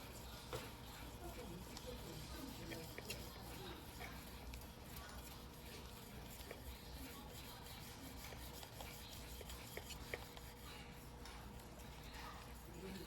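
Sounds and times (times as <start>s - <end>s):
knife rubbing on whetstone: 0.0s - 11.2s.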